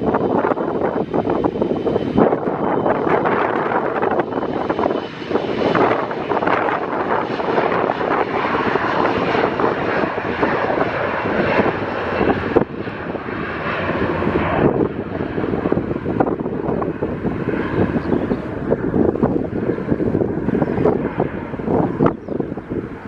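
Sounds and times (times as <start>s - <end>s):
aircraft engine rushing: 0.0s - 23.0s.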